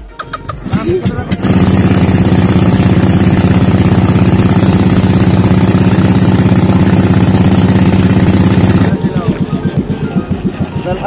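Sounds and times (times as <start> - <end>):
boat engine knocking: 0.0 - 11.0.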